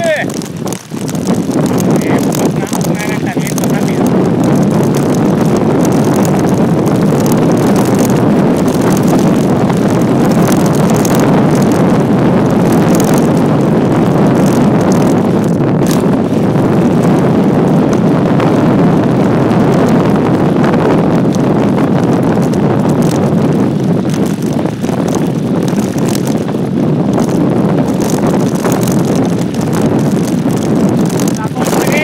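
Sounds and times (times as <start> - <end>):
bike clicks and rattles: 0.0 - 32.0
bike tyres rolling on gravel: 0.0 - 32.0
wind buffeting microphone: 0.0 - 32.0.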